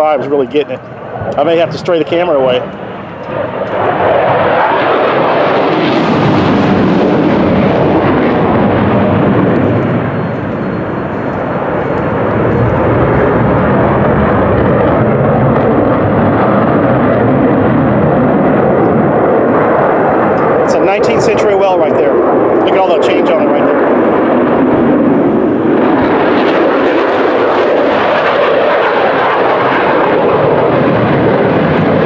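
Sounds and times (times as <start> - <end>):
jet fighter flying overhead: 0.0 - 32.0.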